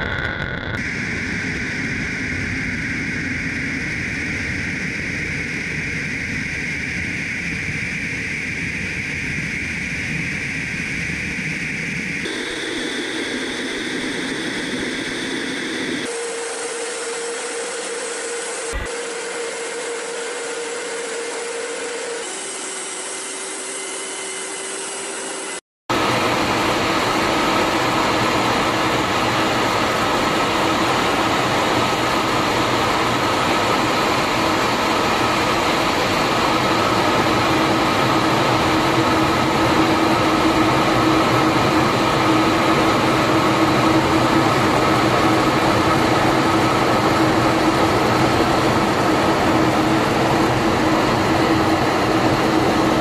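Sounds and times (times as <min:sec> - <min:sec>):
jet engine and airflow drone: 0:00.0 - 0:53.0.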